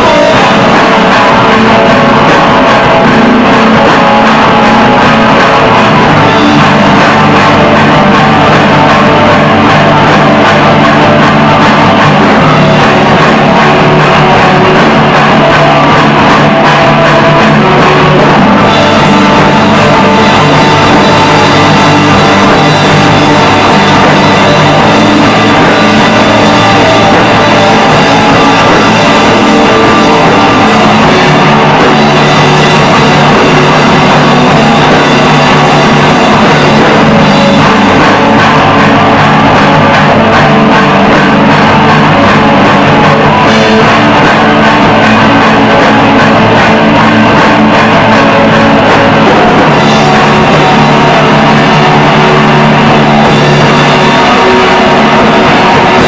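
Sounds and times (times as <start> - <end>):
drum hits: 0.0 - 56.0
rock band playing: 0.0 - 56.0.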